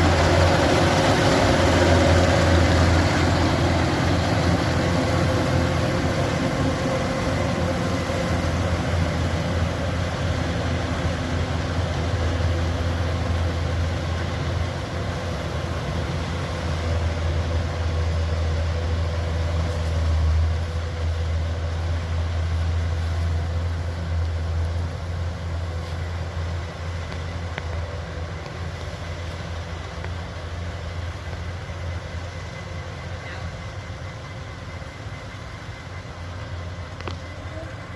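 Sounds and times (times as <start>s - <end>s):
diesel engine humming: 0.0s - 37.9s.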